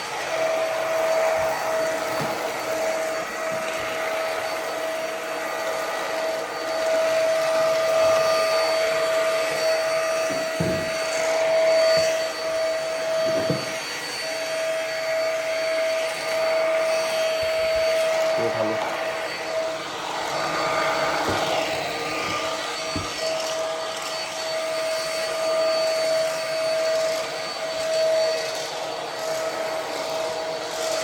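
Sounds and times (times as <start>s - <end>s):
stick vacuum whining: 0.0s - 31.0s.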